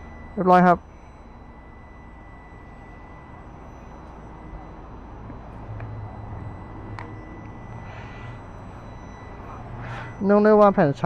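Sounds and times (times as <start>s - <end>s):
thin whine of cooling fan: 0.0s - 11.0s.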